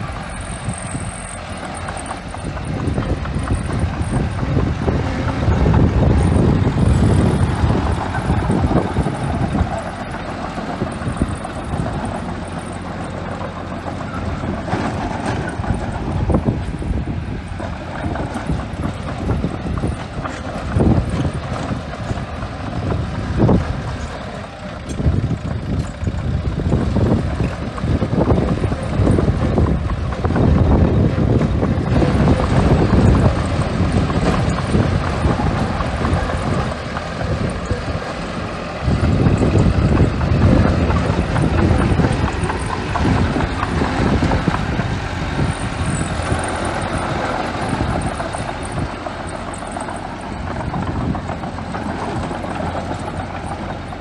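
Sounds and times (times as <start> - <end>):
bulldozer diesel engine working: 0.0 - 54.0.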